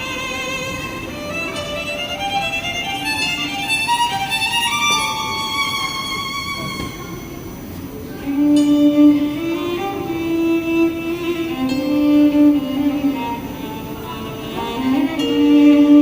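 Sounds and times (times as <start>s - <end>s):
low sustained note: 0.0s - 16.0s
slow violin melody: 0.0s - 16.0s.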